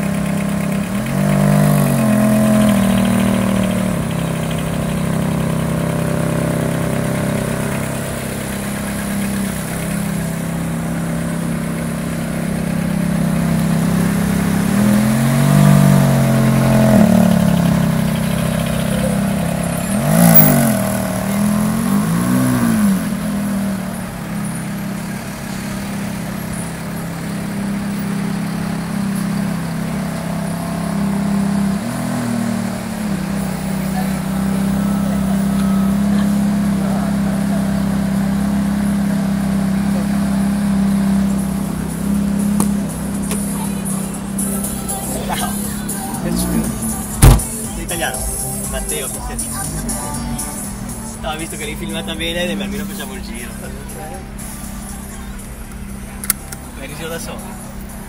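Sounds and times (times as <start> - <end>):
exhaust crack: 0.0 - 49.9
car engine idling and revving: 0.0 - 58.0.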